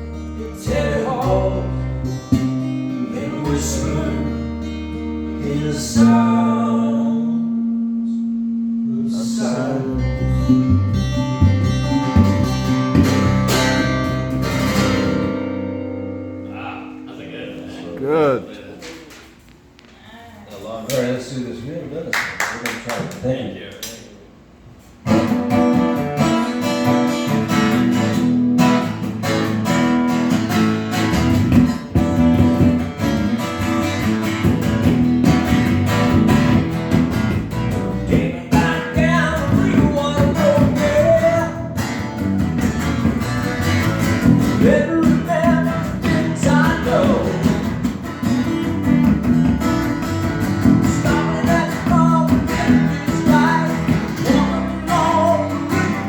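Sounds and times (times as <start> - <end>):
acoustic guitar strumming chords: 0.0 - 18.7, 25.0 - 56.0.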